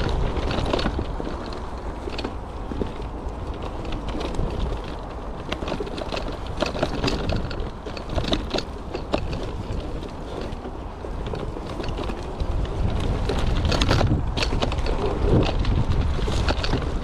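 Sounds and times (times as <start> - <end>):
bike clicks and rattles: 0.0 - 17.0
wind rumble on microphone: 0.0 - 17.0.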